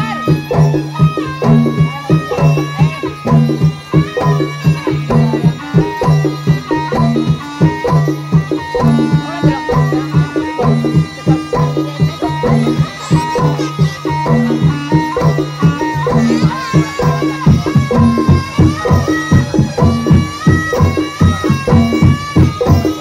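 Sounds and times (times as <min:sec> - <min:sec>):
hand drums: 0:00.0 - 0:23.0
struck metal instruments: 0:00.0 - 0:23.0.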